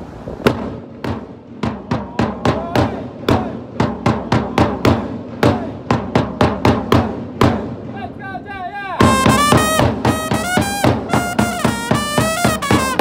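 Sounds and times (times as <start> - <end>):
drum beaten with sticks: 0.4 - 13.0.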